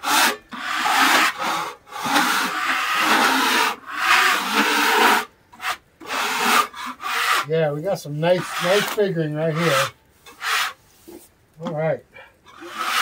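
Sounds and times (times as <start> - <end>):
scraper scraping wood: 0.0 - 7.5, 8.4 - 11.3, 12.5 - 13.0.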